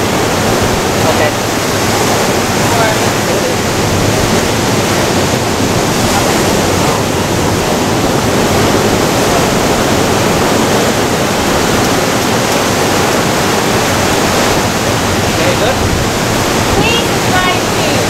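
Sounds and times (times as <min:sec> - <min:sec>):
ocean surf breaking on rocks: 0:00.0 - 0:18.0.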